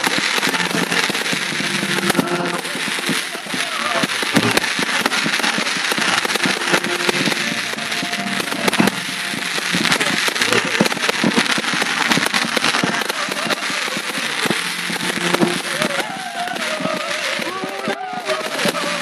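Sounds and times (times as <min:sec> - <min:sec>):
fireworks crackling bangs: 0:00.0 - 0:19.0.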